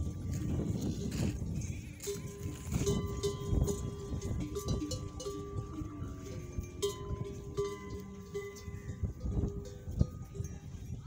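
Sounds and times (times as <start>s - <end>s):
camel neck bells clanking: 0.0s - 11.0s.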